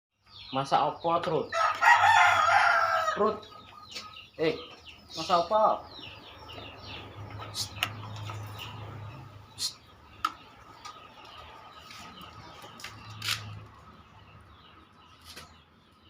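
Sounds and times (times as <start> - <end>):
birds chirping: 0.1 - 16.0.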